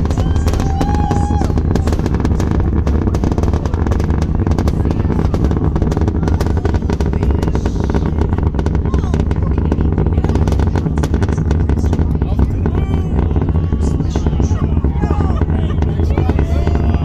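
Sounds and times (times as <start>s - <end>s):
rocket rumble with crackling: 0.0s - 17.0s.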